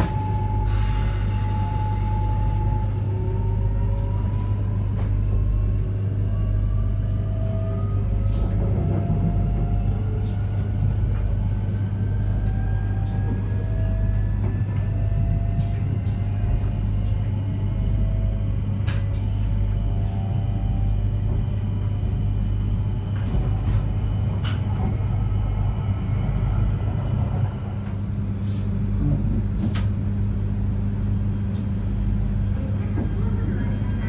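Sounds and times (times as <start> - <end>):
low hum: 0.0 - 34.0
train inverter whine: 0.0 - 34.0
train running gear rumble: 0.0 - 34.0.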